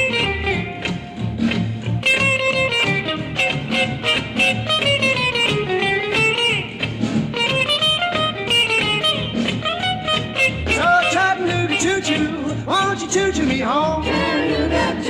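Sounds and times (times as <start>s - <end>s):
rock and roll guitar lead: 0.0s - 15.0s.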